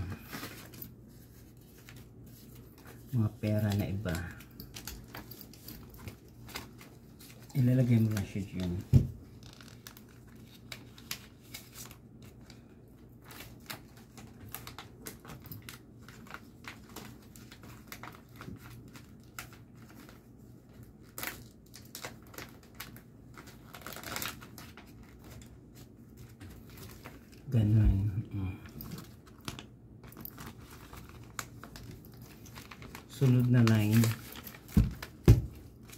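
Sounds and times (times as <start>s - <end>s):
plastic sleeves crinkling: 0.0s - 35.9s.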